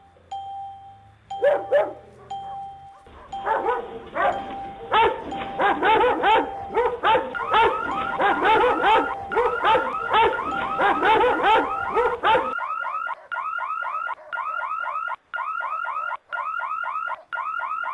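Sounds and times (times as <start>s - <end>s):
electronic alarm chirping: 0.0s - 17.9s
dogs barking: 1.4s - 14.9s, 15.7s - 17.8s.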